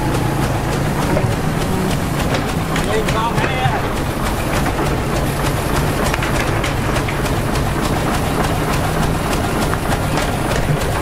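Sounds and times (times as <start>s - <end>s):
diesel engine droning: 0.0s - 11.0s
rattling clatter: 0.0s - 11.0s.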